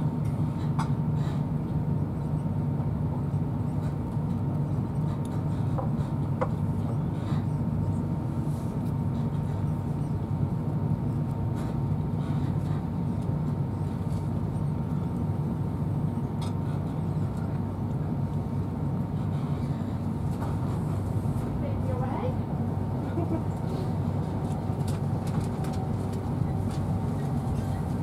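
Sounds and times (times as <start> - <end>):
train coach rumbling on track: 0.0 - 28.0.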